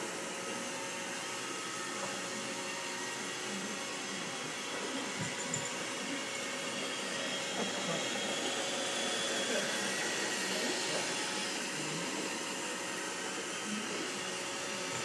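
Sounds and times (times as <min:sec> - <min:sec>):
robot vacuum whirring: 0:00.2 - 0:15.0.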